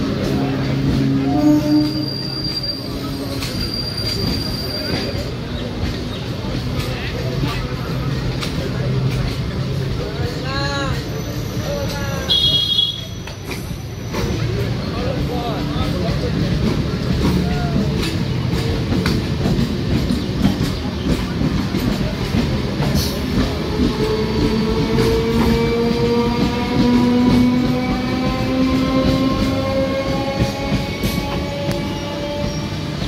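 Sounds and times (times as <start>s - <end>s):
train rumbling past: 0.0s - 33.0s.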